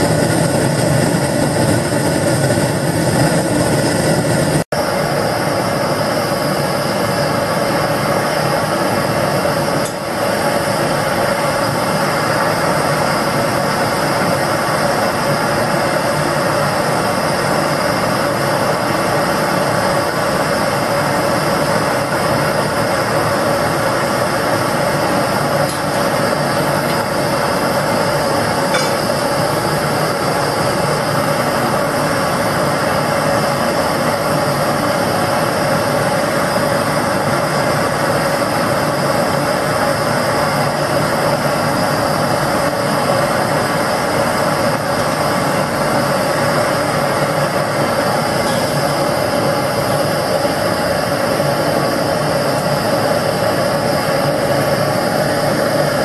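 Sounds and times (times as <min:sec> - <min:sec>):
gas burner rushing: 0:00.0 - 0:56.0.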